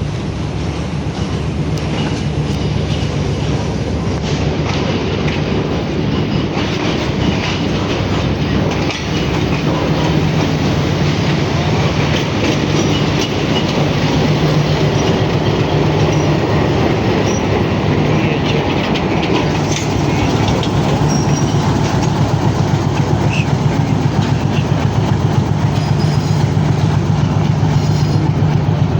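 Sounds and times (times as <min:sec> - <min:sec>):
railcar engine hum: 0:00.0 - 0:28.9
wheels clacking on rails: 0:00.0 - 0:28.9.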